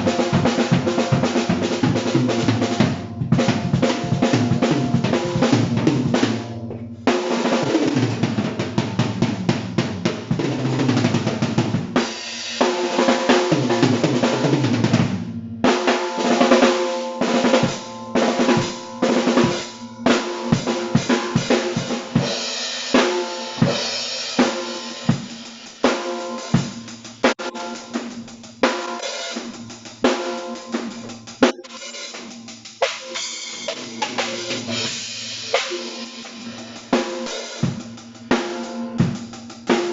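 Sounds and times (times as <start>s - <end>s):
acoustic drum kit playing: 0.0s - 39.9s.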